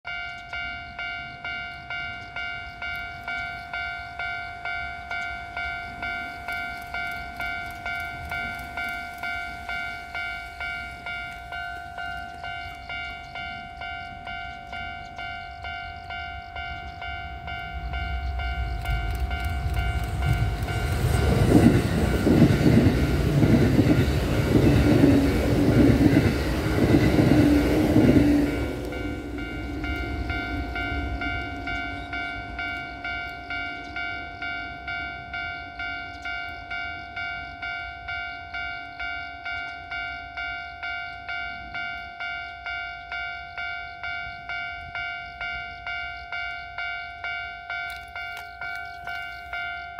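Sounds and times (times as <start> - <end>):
train rumbling: 0.1 - 49.9.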